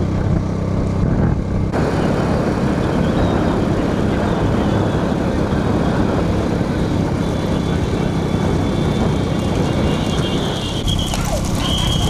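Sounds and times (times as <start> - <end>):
vehicle engine humming: 0.0 - 12.0
wind and road noise: 0.0 - 12.0.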